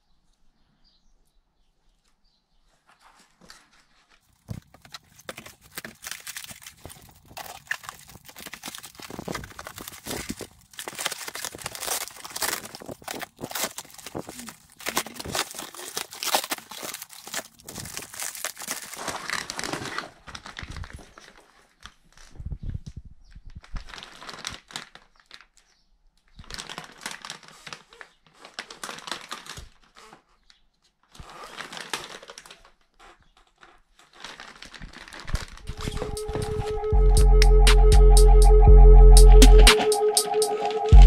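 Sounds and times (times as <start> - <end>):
cardboard and plastic rustling: 1.8 - 36.8.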